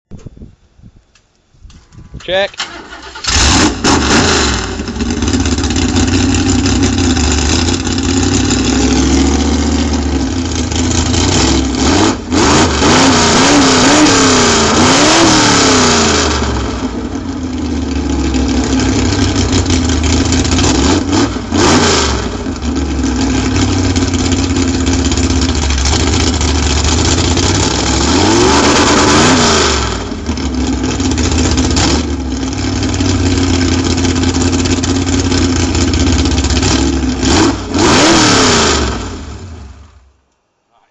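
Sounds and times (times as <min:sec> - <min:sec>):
drag car engine revving: 0:02.6 - 0:40.0.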